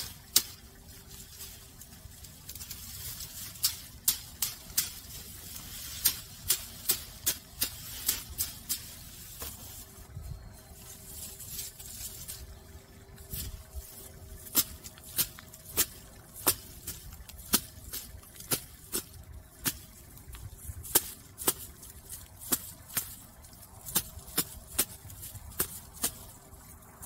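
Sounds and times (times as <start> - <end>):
dry stalks being beaten: 0.0 - 10.0, 13.1 - 27.0.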